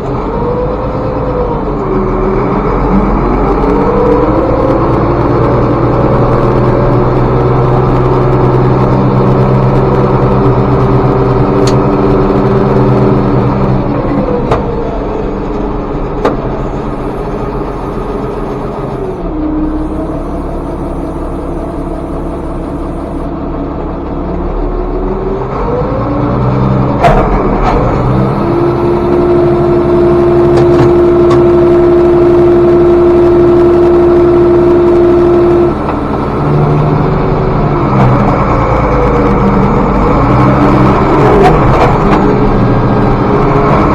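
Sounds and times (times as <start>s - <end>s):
tractor engine running: 0.0s - 25.4s, 26.4s - 43.9s.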